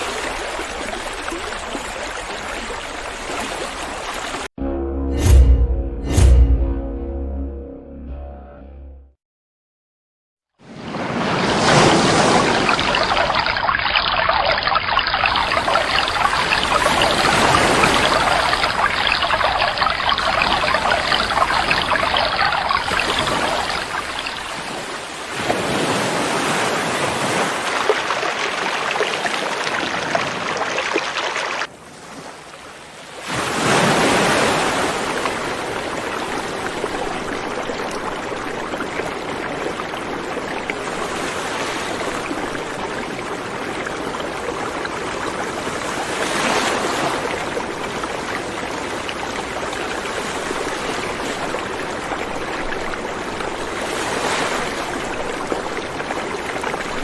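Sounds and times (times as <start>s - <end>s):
river water rushing: 11.0s - 57.0s.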